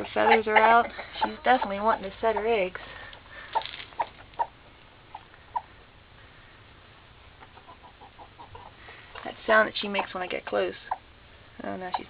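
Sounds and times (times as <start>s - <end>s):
hen clucking: 0.0s - 5.9s, 7.2s - 12.0s.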